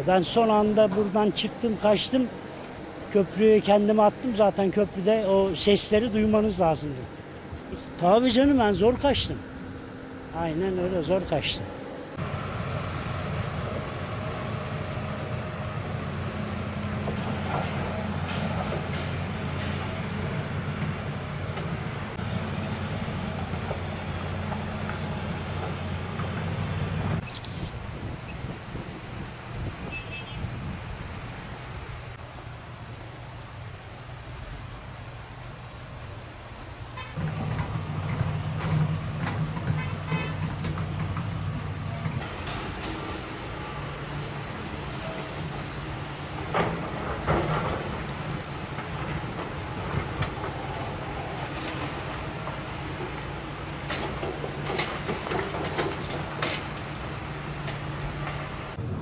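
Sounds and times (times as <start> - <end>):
heavy vehicle engines running: 0.0 - 59.0.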